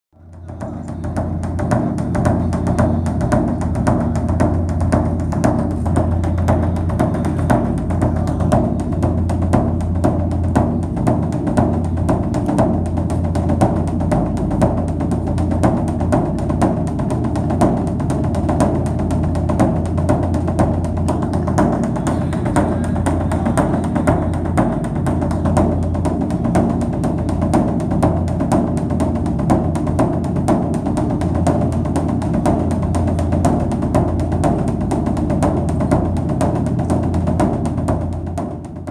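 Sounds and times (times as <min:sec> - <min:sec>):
drums beating fast: 0:00.2 - 0:38.9.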